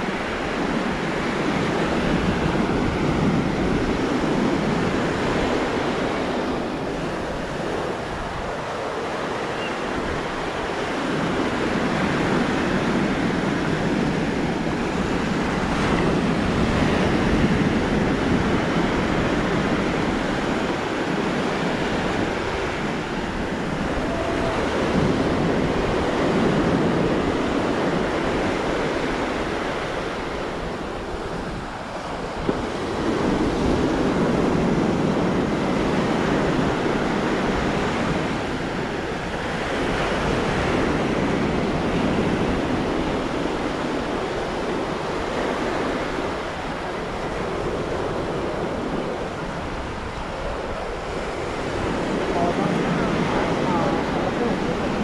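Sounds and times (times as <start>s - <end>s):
surf washing onto beach: 0.0s - 55.0s
wind on microphone: 0.0s - 55.0s.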